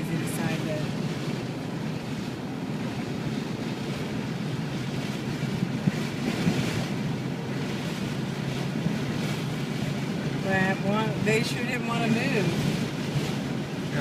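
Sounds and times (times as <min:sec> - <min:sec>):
car rumbling inside cabin: 0:00.0 - 0:14.0.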